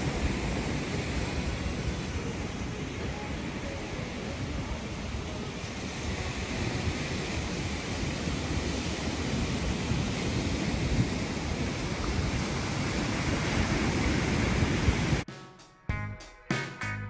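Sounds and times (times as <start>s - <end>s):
wind rumbling on microphone: 0.0s - 15.2s
surf breaking on beach: 0.0s - 15.3s.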